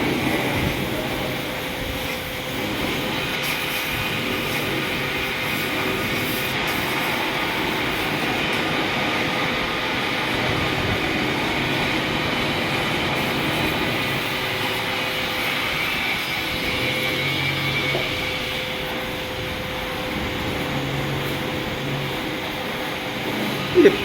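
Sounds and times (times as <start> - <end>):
welding torch flame hissing: 0.0 - 24.0.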